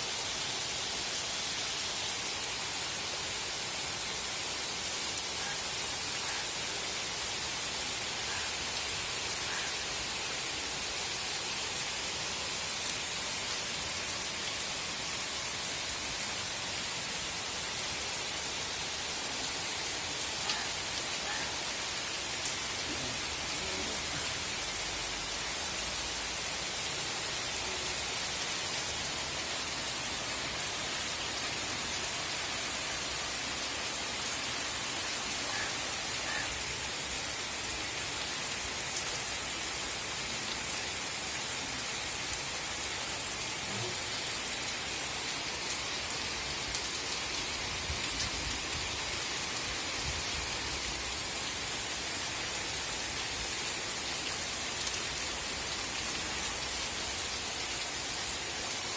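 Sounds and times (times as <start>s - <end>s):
heavy rain pouring: 0.0s - 58.9s.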